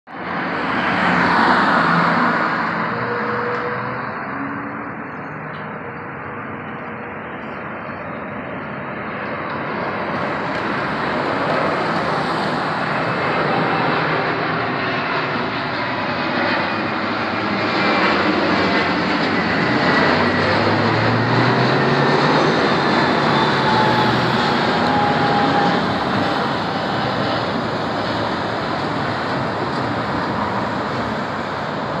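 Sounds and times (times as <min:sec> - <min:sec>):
airliner flying overhead: 0:00.1 - 0:32.0
faint jet whine: 0:00.1 - 0:32.0.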